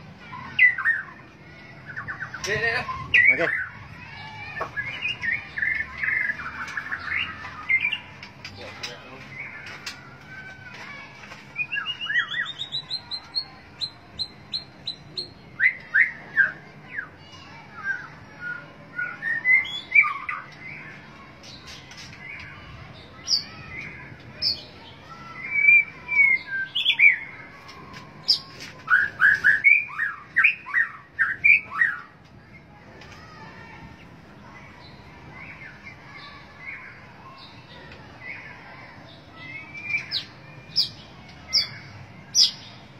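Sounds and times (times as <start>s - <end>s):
bird singing: 0.2s - 42.9s.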